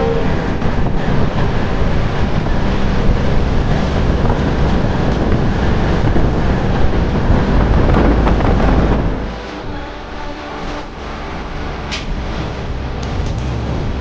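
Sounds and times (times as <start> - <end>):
rushing wind: 0.0 - 14.0
train rumbling: 0.0 - 14.0.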